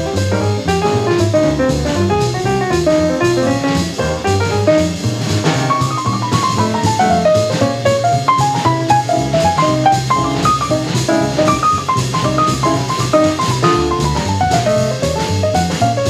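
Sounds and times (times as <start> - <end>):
piano: 0.0 - 16.0
swinging drums: 0.0 - 16.0
walking double bass: 0.0 - 16.0.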